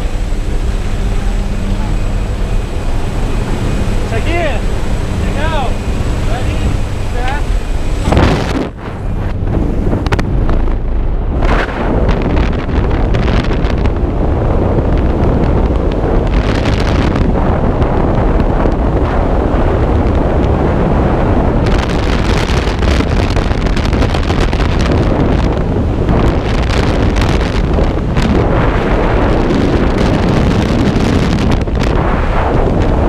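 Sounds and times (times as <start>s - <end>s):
wind buffeting a microphone: 0.0s - 33.0s.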